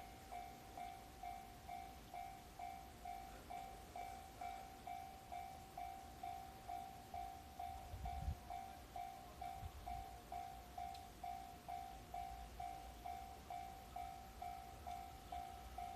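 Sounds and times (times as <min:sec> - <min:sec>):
electronic crossing bell dinging: 0:00.0 - 0:15.9.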